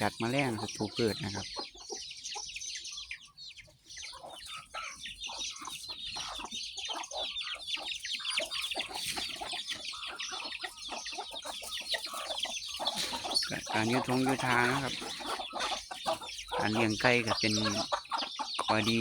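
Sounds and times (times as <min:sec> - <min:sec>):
chickens clucking: 0:00.0 - 0:19.0
chicks peeping: 0:00.0 - 0:19.0.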